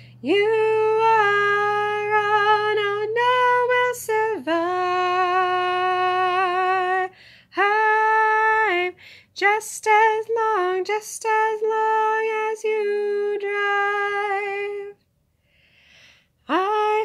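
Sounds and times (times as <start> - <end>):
woman singing long held notes: 0.0 - 15.0, 16.5 - 17.0.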